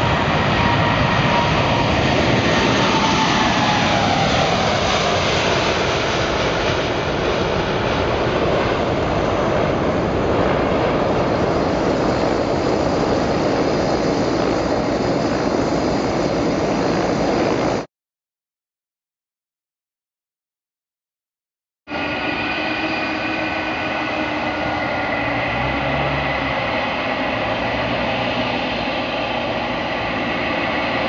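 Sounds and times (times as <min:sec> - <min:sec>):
falling jet whine: 0:00.0 - 0:17.9, 0:21.9 - 0:31.0
jet engines at takeoff: 0:00.0 - 0:17.9, 0:21.9 - 0:31.0.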